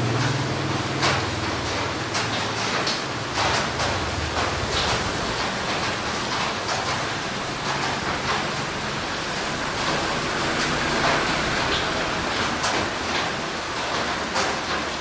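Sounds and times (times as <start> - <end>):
heavy rain: 0.0 - 15.0
rain splashes: 0.0 - 15.0.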